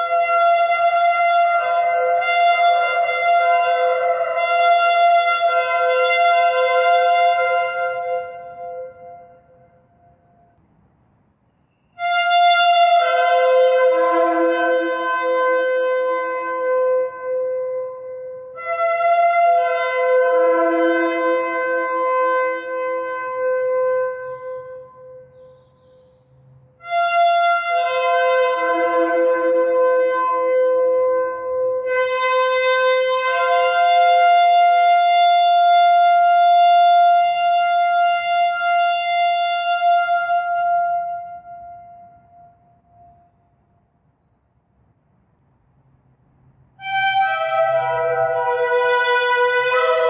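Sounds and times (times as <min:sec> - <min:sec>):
ram's horn blasts: 0:00.0 - 0:10.6, 0:11.9 - 0:26.0, 0:26.7 - 0:43.4, 0:46.7 - 0:50.0.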